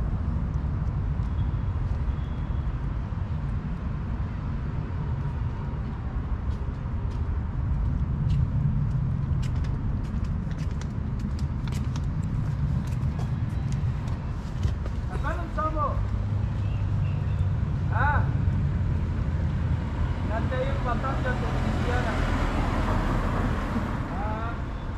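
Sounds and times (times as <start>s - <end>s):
low rumble of traffic: 0.0s - 24.9s.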